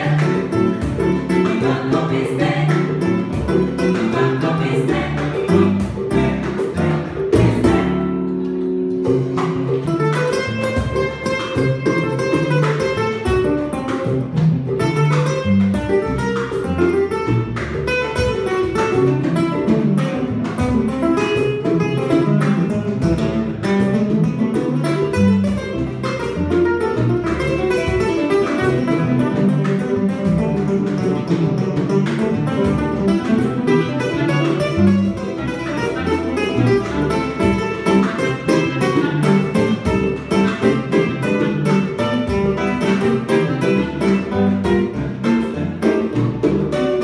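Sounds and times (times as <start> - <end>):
cajon beat: 0.0 - 47.0
guitar picking melody: 0.0 - 47.0
plucked upright bass: 0.0 - 47.0.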